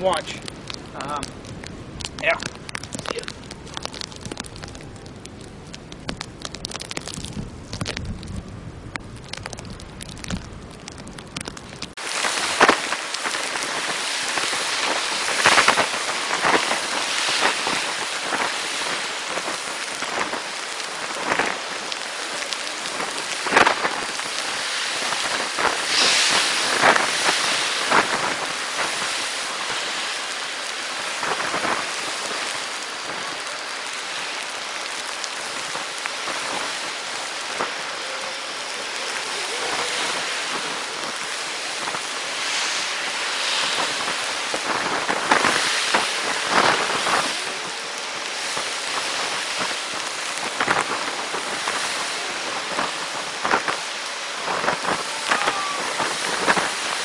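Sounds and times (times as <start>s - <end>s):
sleet and freezing rain hiss: 0.0s - 57.0s
wind gusts: 0.0s - 57.0s.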